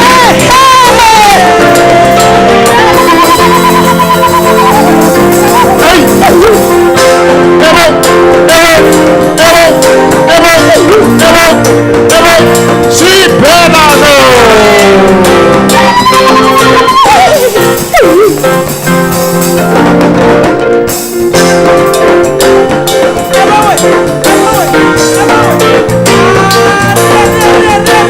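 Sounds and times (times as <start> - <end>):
gospel praise music: 0.0 - 28.0.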